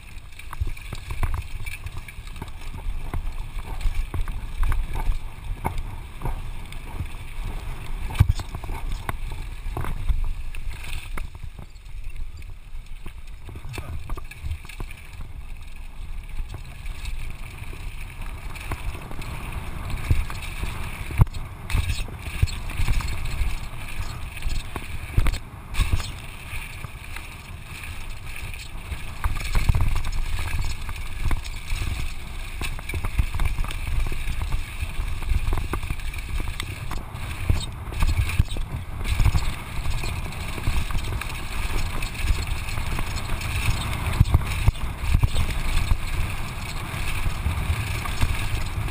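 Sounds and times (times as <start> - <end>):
bike rattling over bumps: 0.0 - 48.9
tyres rumbling on gravel: 0.0 - 48.9.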